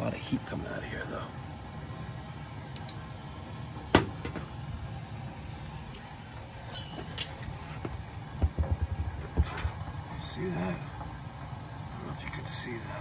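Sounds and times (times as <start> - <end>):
boiler running: 0.0 - 13.0.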